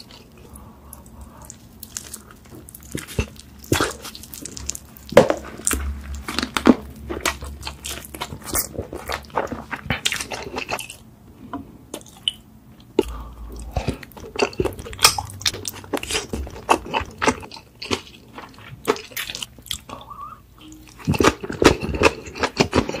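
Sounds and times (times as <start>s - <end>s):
chewing rice cakes: 0.0s - 11.1s, 11.8s - 23.0s.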